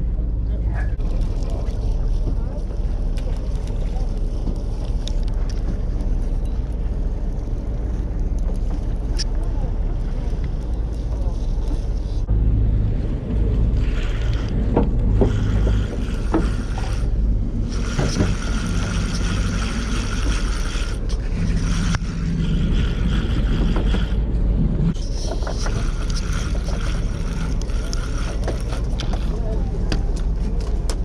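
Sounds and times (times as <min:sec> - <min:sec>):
boat engine rumble: 0:00.0 - 0:31.0
wind on microphone: 0:00.0 - 0:31.0.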